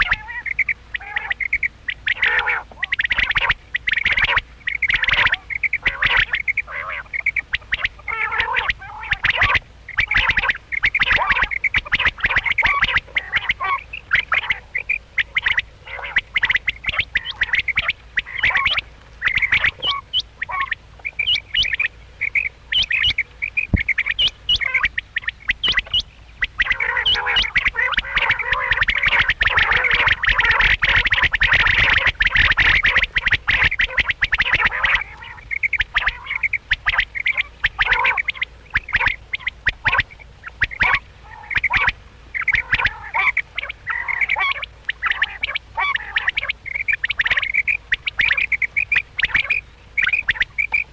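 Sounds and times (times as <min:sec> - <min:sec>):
quail calling: 0:00.0 - 0:50.9.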